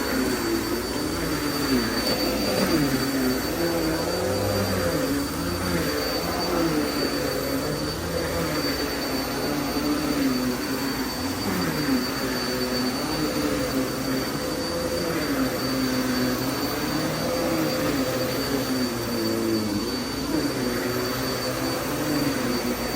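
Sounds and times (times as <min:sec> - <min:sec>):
vacuum cleaner running: 0:00.0 - 0:22.9.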